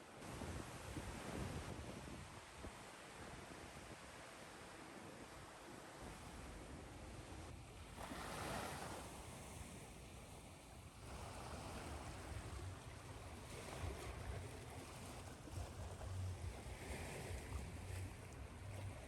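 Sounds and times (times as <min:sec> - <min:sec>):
ocean waves washing ashore: 0:02.8 - 0:19.0.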